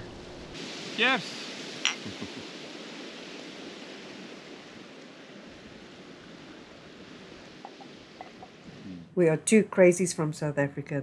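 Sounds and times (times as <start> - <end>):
small waves washing on sand: 0.0 - 8.8.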